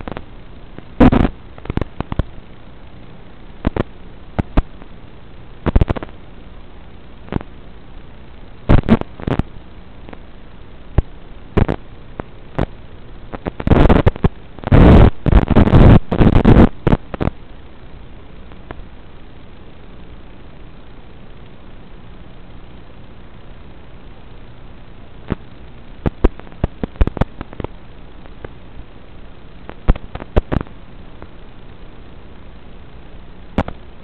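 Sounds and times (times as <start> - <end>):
crackling noise bursts: 0.0 - 34.0
steady hiss: 0.0 - 34.0.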